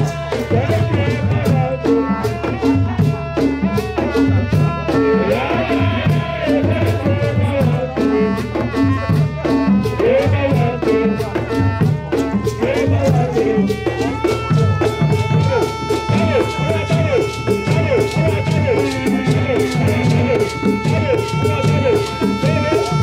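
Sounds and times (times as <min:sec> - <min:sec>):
hand drums beating: 0:00.0 - 0:23.0.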